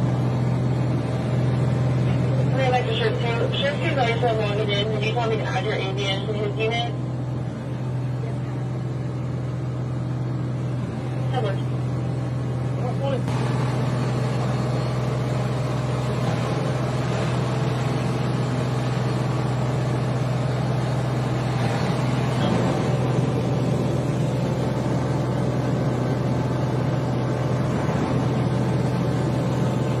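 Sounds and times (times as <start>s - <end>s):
outboard boat motor drone: 0.0s - 30.0s.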